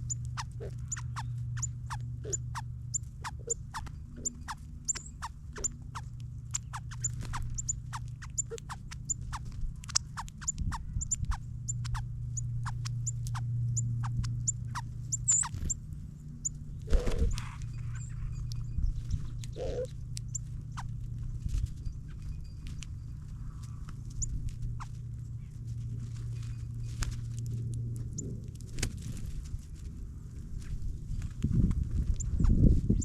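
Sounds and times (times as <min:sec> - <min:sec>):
birds chipping: 0:00.0 - 0:27.0
steady low hum: 0:00.0 - 0:33.0.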